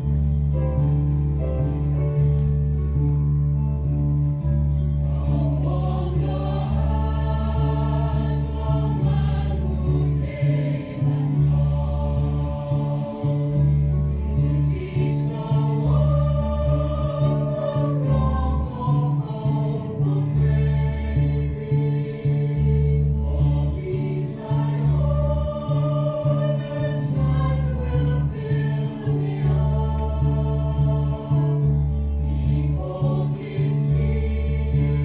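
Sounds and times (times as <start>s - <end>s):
choir-like singing voices: 4.9s - 35.0s.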